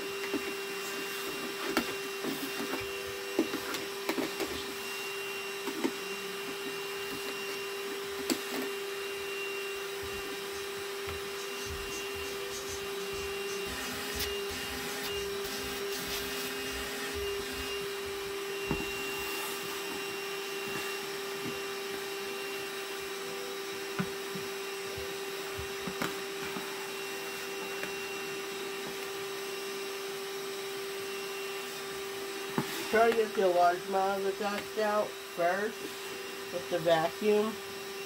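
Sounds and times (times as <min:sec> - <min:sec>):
handheld vacuum running: 0:00.0 - 0:38.0.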